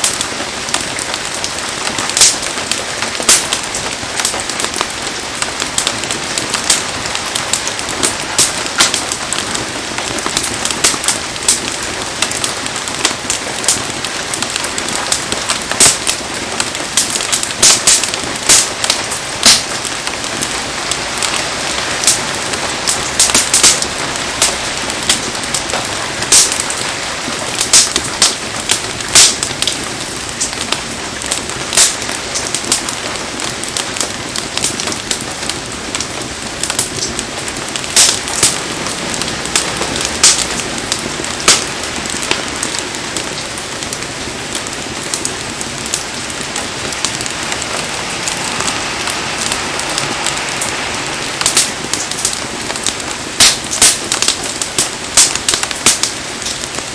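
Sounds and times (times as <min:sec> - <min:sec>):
bonfire popping and crackling: 0:00.0 - 0:56.9
heavy rain falling: 0:00.0 - 0:56.9.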